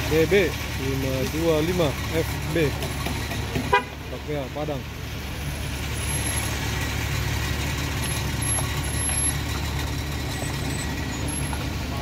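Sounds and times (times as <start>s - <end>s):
road noise: 0.0s - 12.0s
truck engine driving past: 0.0s - 12.0s.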